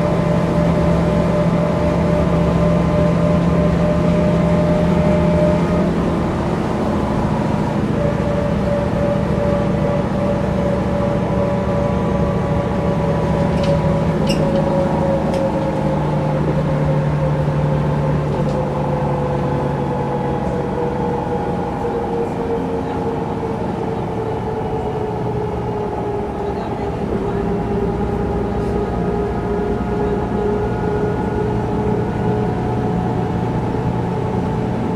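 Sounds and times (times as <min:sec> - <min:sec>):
bus engine and gearbox whine: 0:00.0 - 0:34.9.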